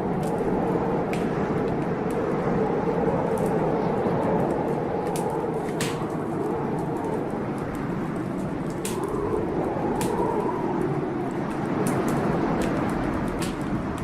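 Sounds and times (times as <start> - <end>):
heavy blizzard wind: 0.0 - 14.0
wood fire crackling and popping: 0.0 - 14.0.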